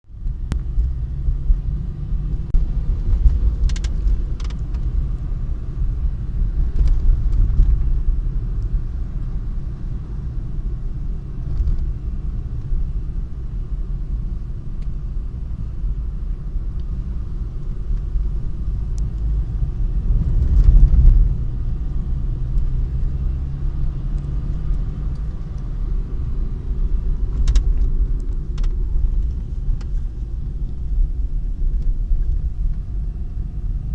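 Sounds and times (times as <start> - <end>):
car rumbling: 0.0 - 33.9.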